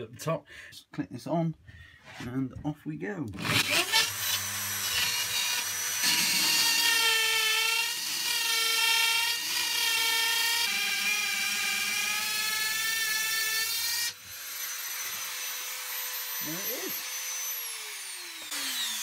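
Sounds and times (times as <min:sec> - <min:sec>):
rotary tool cutting board: 0:03.4 - 0:19.0.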